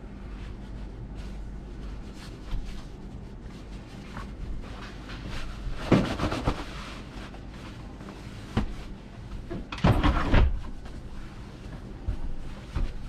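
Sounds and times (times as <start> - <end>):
bedding rustling: 0.1 - 13.0.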